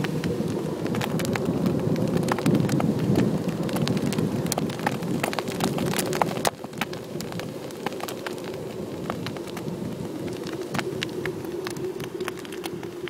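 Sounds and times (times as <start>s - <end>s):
steady rumble: 0.0s - 13.0s.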